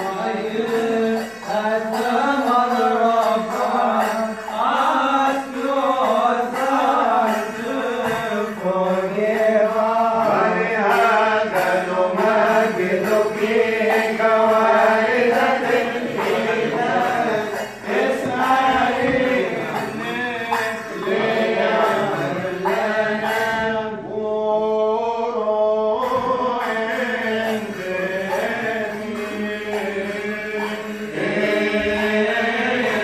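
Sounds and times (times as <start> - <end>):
liturgical chanting: 0.0 - 33.0.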